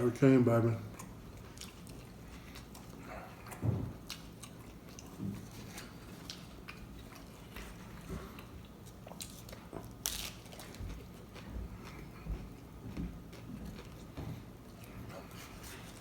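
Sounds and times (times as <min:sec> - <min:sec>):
person chewing food: 0:00.9 - 0:16.0.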